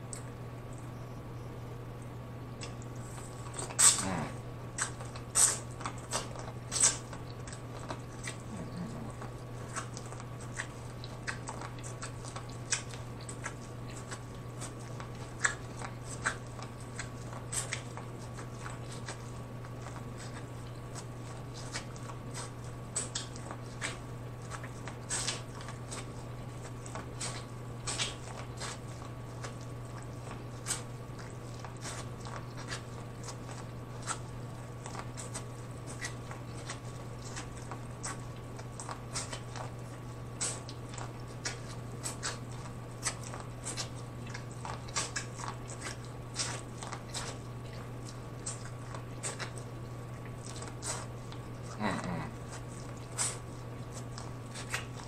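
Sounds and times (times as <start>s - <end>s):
steady low hum: 0.0s - 55.0s
biting and chewing corn: 2.6s - 55.0s.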